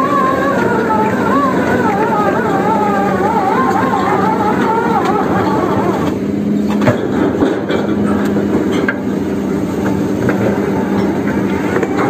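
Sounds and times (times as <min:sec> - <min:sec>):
drilling rig engine hum: 0:00.0 - 0:12.0.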